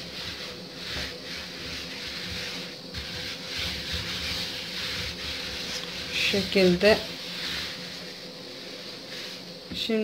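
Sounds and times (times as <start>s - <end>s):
hand rubbing flour on dough: 0.0s - 10.0s.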